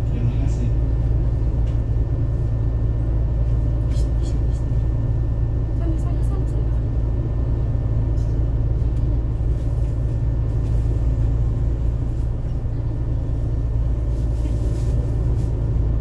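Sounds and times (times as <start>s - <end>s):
bus engine rumble from inside: 0.0s - 16.0s.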